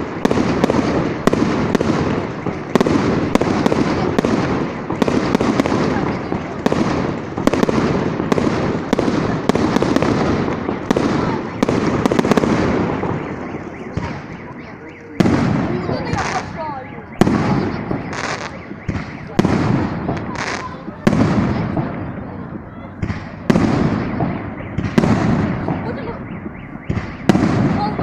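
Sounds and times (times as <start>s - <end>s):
continuous din: 0.0s - 28.0s
fireworks bursting with sharp bangs: 0.0s - 28.0s.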